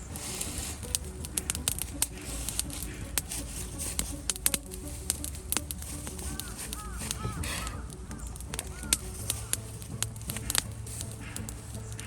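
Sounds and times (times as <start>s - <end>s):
campfire crackling: 0.0s - 12.0s
soft fire hiss: 0.0s - 12.0s.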